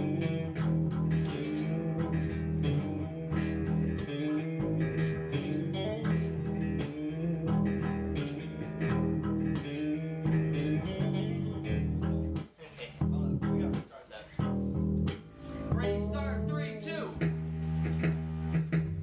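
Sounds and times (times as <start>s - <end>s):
electric bass guitar riff: 0.0s - 19.0s.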